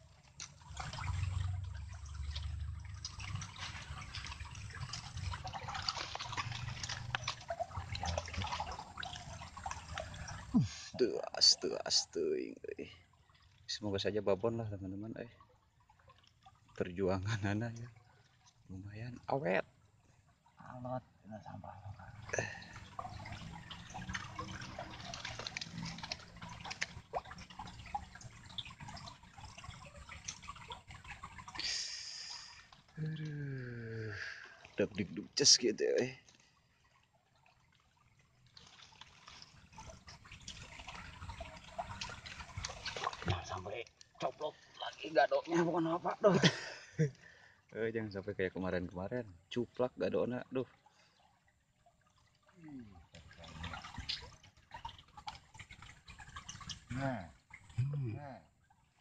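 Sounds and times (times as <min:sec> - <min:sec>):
small wet clicks and crackles: 0:00.0 - 0:14.1, 0:15.0 - 0:46.3, 0:50.5 - 0:59.0
muddy water squelching and trickling: 0:00.0 - 0:59.0.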